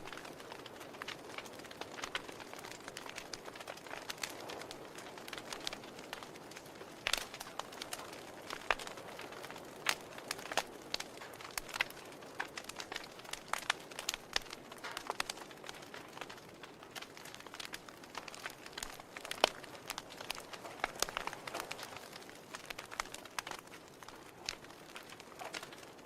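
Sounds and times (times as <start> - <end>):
soft fire hiss: 0.0 - 26.0
wood fire crackling and popping: 0.0 - 26.0.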